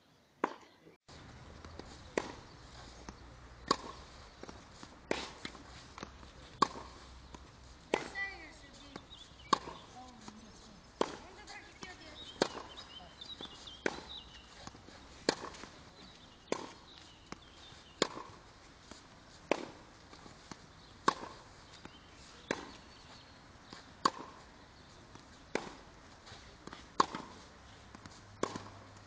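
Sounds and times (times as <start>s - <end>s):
racket hitting tennis ball: 0.4s - 0.7s, 1.6s - 29.0s.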